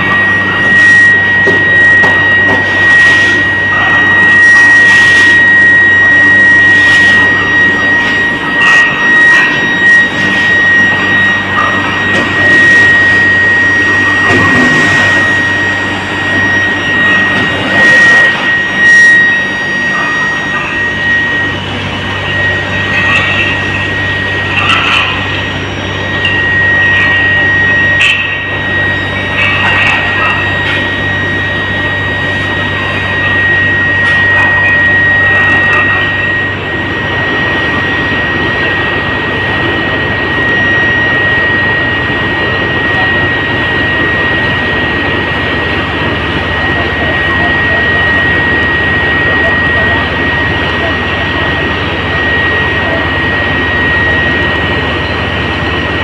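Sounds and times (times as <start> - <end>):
foundry machinery noise: 0.0 - 56.0
furnace high-pitched whine: 0.0 - 56.0
low hum: 0.0 - 56.0.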